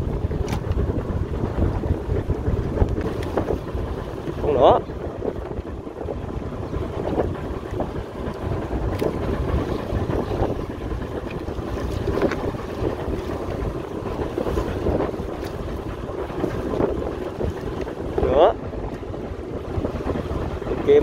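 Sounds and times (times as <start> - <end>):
boat engine running: 0.0 - 21.0
wind on microphone: 0.0 - 21.0.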